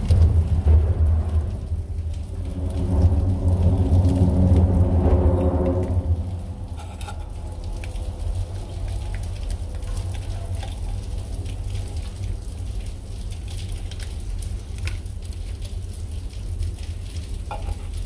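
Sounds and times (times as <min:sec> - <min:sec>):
rain falling and dripping: 0:00.0 - 0:18.0
steady low rumble: 0:00.0 - 0:18.0.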